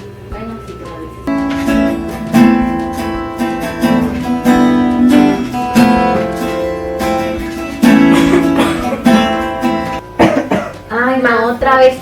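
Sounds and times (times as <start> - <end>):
strummed acoustic guitar: 1.2 - 11.2.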